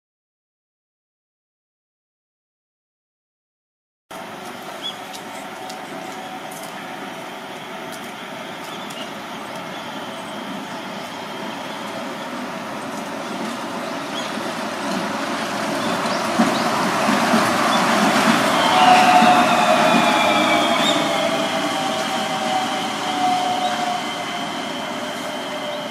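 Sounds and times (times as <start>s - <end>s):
train approaching: 4.1s - 25.9s.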